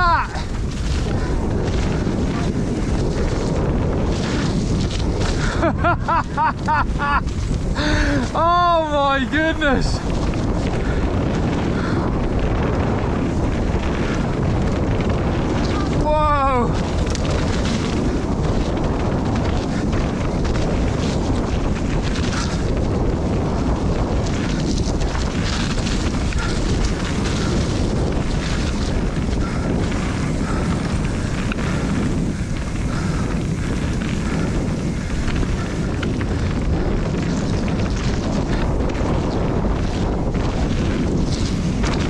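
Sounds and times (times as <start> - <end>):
bike tyre and ride noise: 0.0 - 42.0
wind buffeting microphone: 0.0 - 42.0.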